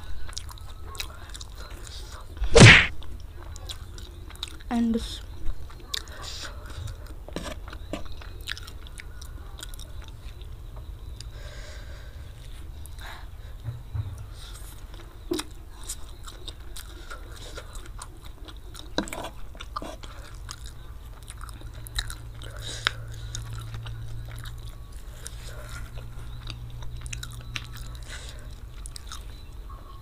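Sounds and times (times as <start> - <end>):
close chewing of noodles: 0.0 - 2.4, 3.0 - 13.5, 14.4 - 30.0
faint low hum: 0.0 - 30.0.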